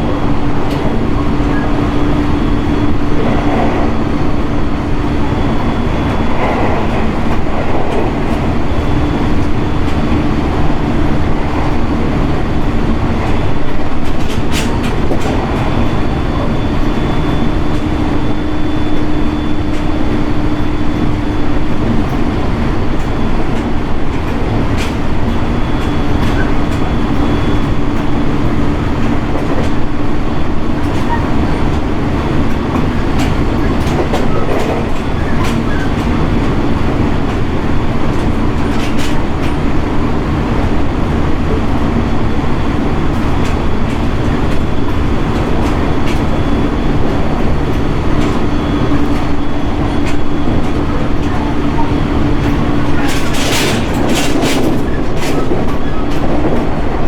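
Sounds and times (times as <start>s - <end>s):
rail joint clicks: 0.0s - 57.0s
train wheels rumbling on rail: 0.0s - 57.0s.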